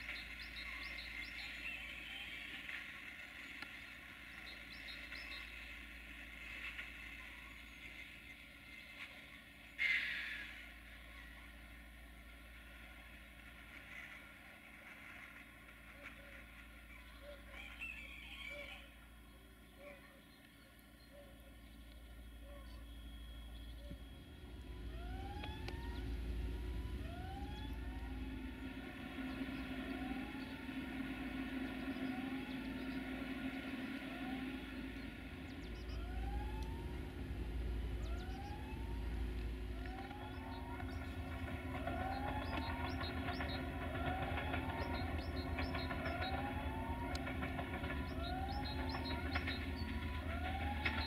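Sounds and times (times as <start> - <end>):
distant train with high ringing: 0.0 - 51.0.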